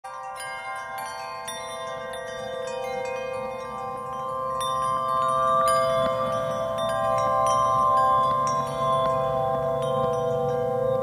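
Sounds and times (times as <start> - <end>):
chimes ringing: 0.0 - 11.0.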